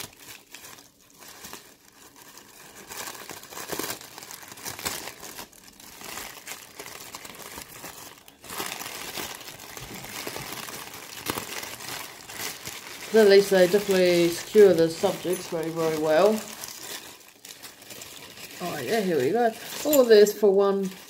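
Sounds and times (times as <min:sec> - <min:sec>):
paper crinkling and rustling: 0:00.0 - 0:21.0.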